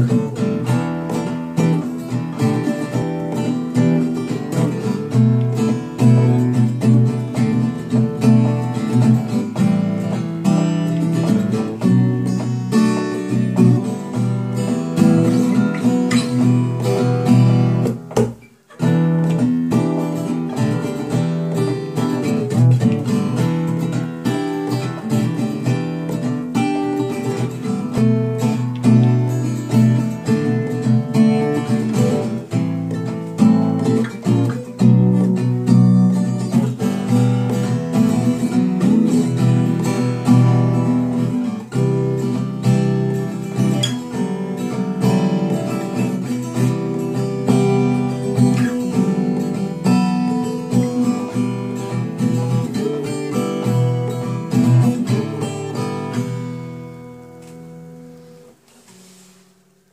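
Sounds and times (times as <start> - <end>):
acoustic blues guitar: 0.0 - 59.9.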